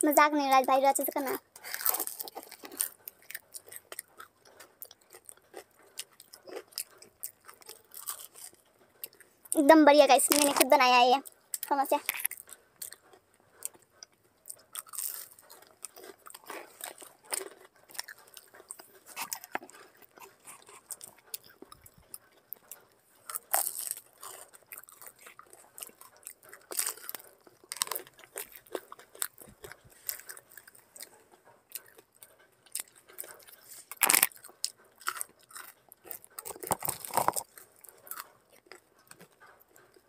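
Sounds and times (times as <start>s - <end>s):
crunchy pastry being chewed: 0.0s - 40.0s.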